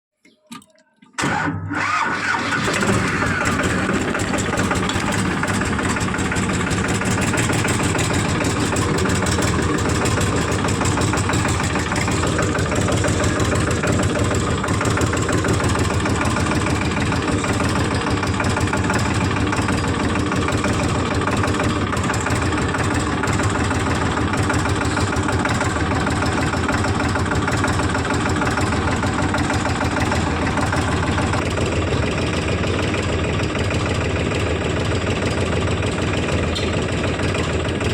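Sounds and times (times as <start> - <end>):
diesel engine running: 1.2 - 37.9.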